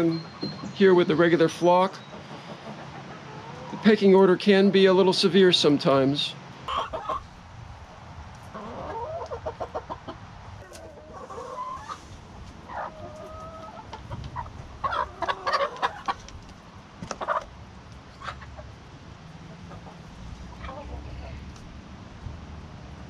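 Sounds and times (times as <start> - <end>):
hens clucking: 0.0 - 7.4, 8.3 - 21.7.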